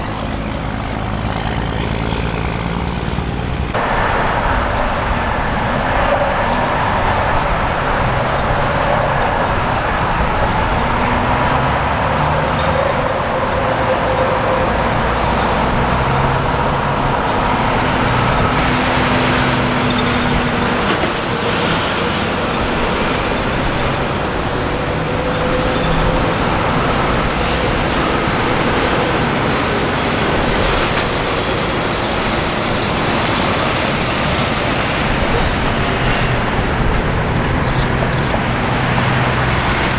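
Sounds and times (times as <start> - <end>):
diesel truck engines: 0.0 - 39.9
road traffic noise: 0.0 - 39.9.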